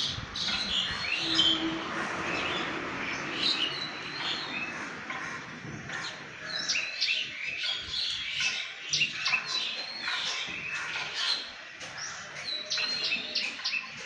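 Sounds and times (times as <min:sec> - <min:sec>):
small birds twittering: 0:00.0 - 0:14.0.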